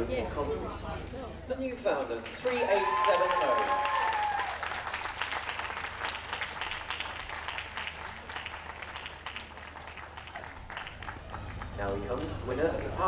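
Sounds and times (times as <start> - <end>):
crowd applauding: 2.2 - 13.0.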